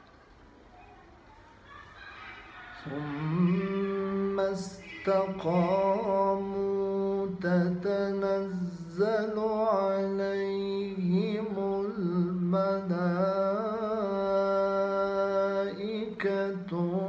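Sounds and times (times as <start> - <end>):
solo voice chanting: 2.8 - 17.0.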